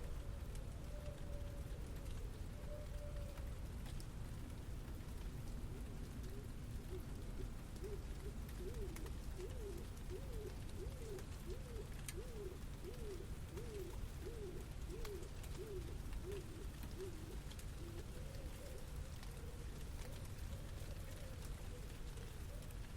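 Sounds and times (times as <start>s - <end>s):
faint ticks: 0.0s - 22.9s
low city rumble: 0.0s - 22.9s.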